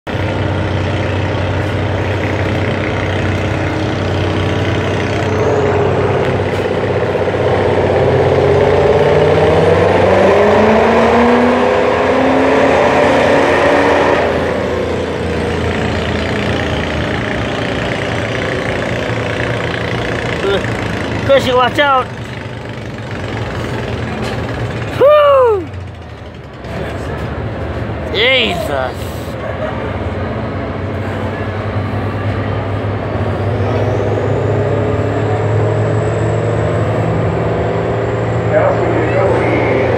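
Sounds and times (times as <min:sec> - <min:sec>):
truck engine revving under load: 0:00.1 - 0:39.9.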